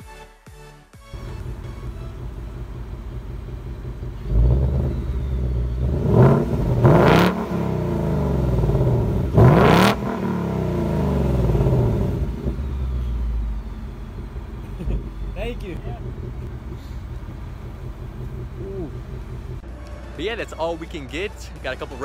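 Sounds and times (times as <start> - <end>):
car engine idling and revving: 1.1 - 20.1.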